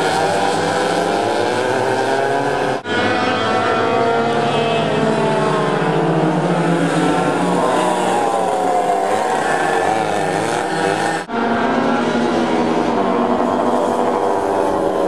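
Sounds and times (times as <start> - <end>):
go-kart engines racing: 0.0 - 15.0.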